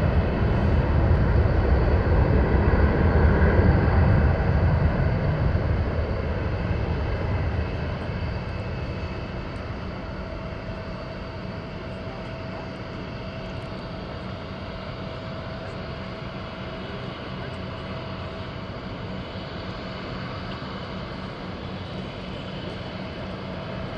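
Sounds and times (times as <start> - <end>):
jet engines rumbling with whine: 0.0 - 23.9.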